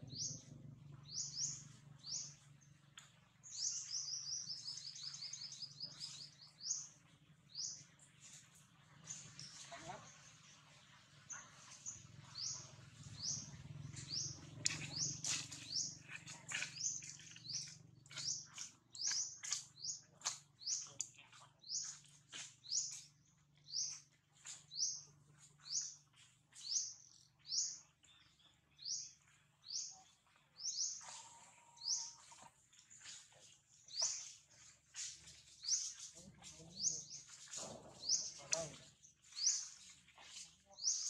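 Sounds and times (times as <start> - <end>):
bird chirping: 0.0 - 8.4, 11.3 - 41.0.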